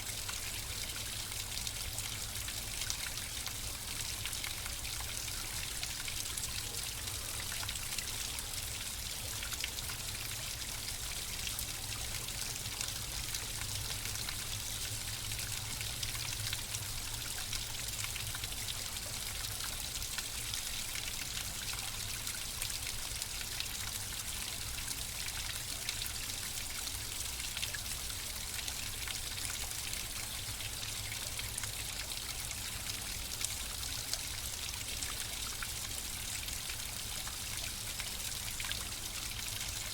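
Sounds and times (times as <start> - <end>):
flowing water trickling: 0.0 - 39.9.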